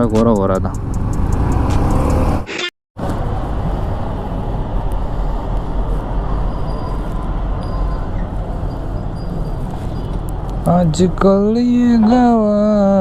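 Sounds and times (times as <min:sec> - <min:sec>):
road and traffic rumble: 0:00.0 - 0:13.0.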